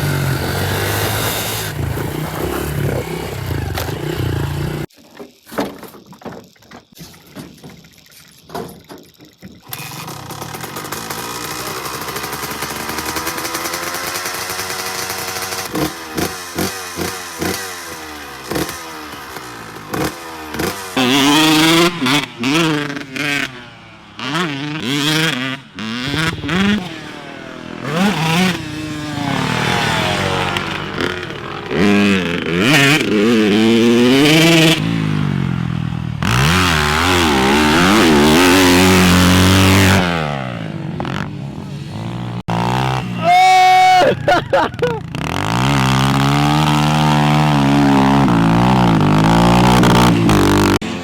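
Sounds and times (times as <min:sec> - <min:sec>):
dirt bike engine revving: 0:00.0 - 0:04.9, 0:09.6 - 0:51.0.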